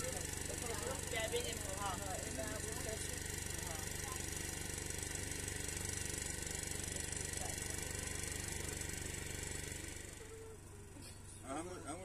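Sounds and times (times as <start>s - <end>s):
mechanical hum with rattle: 0.0s - 12.0s.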